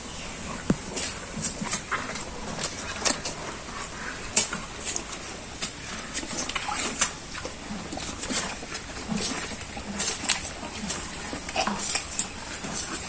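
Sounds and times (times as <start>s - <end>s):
cattle chewing fodder stalks: 0.0s - 13.0s.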